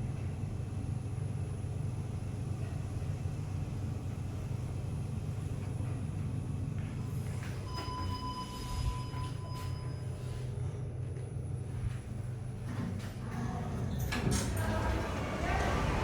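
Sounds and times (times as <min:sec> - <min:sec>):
lift car low rumble: 0:00.0 - 0:16.0.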